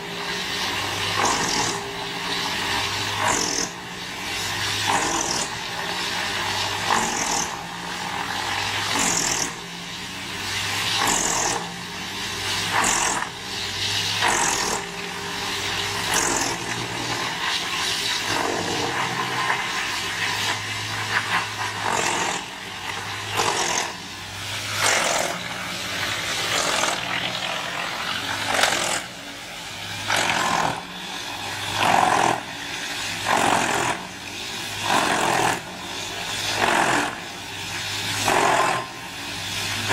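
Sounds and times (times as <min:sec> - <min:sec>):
wood chipper engine drone: 0:00.0 - 0:39.9.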